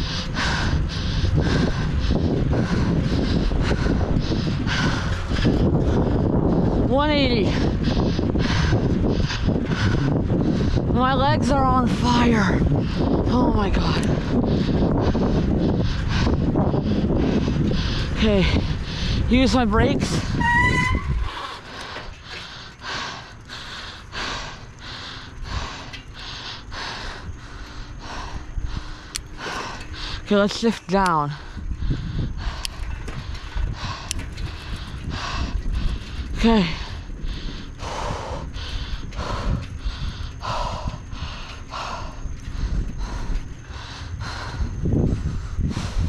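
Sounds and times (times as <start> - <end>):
person breathing hard: 0.0 - 6.9, 7.5 - 11.0, 12.4 - 13.4, 14.0 - 19.3, 21.1 - 30.3, 31.3 - 46.0
wind rumbling on microphone: 0.0 - 46.0.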